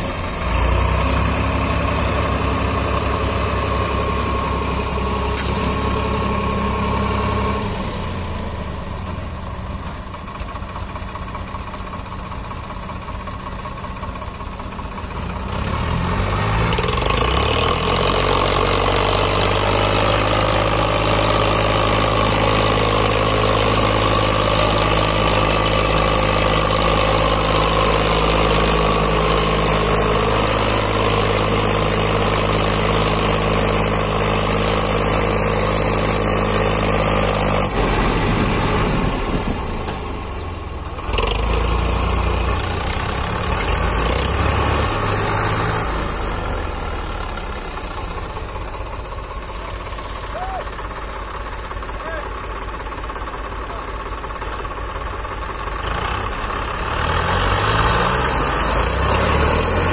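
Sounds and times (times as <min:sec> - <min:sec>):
tractor diesel engine: 0:00.0 - 0:59.9.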